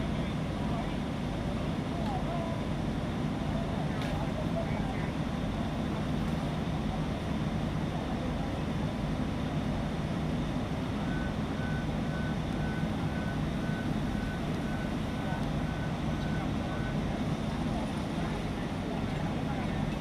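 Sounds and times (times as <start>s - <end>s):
fire truck engine droning: 0.0s - 20.0s.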